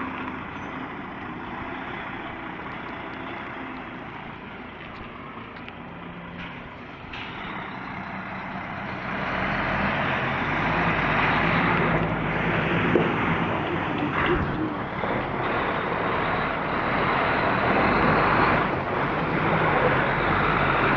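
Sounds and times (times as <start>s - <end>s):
truck diesel engine running: 0.0s - 20.9s.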